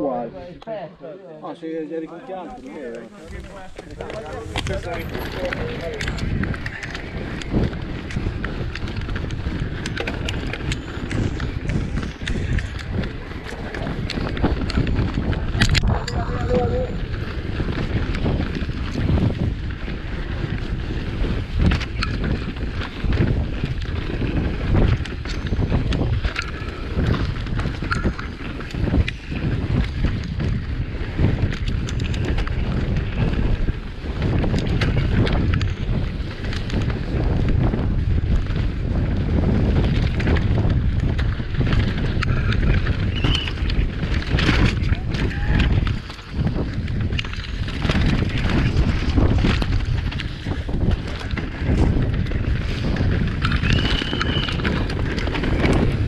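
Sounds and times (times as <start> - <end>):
bike rumbling and rattling: 2.2 - 56.0
wind on microphone: 2.3 - 56.0.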